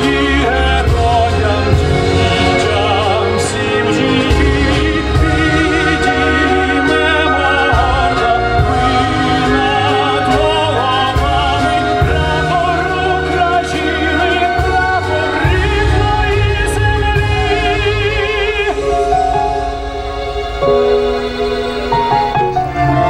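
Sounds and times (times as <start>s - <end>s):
song with wavering vocals: 0.0s - 23.0s.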